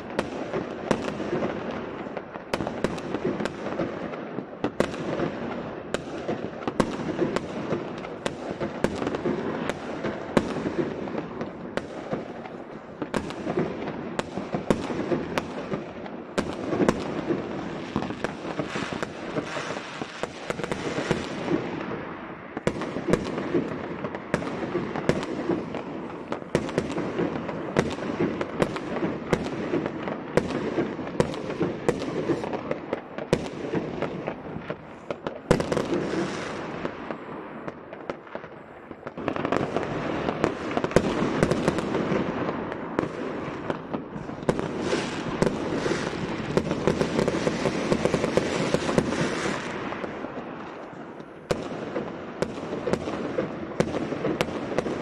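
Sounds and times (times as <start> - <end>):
fireworks banging and crackling: 0.0 - 55.0.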